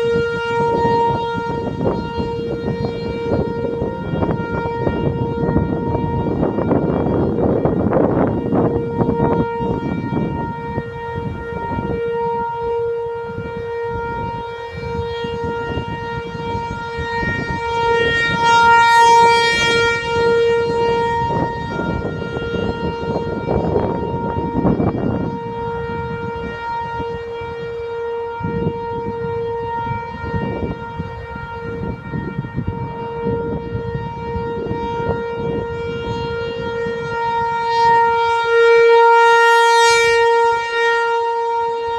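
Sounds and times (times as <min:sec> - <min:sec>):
warning siren steady tone: 0:00.0 - 0:41.9.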